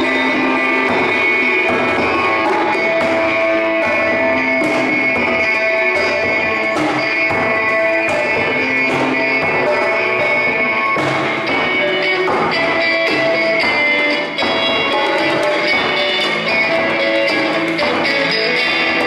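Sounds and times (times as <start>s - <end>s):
electric guitar ringing notes: 0.0s - 19.0s
hand drums: 0.0s - 19.0s.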